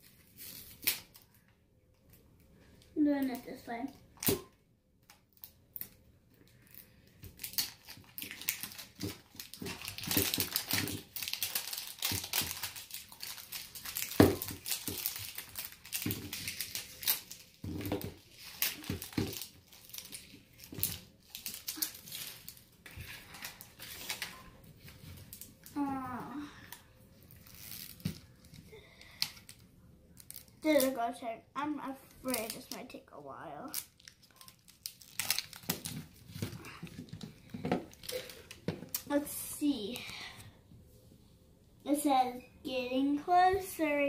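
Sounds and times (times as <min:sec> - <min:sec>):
wrapping crinkling and tearing: 0:00.0 - 0:01.5, 0:05.0 - 0:40.3.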